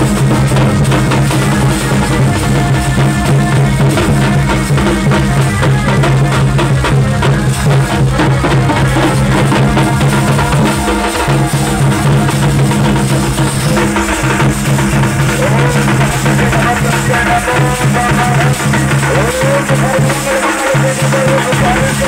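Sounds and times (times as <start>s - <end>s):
fast dense drumming: 0.0s - 22.0s.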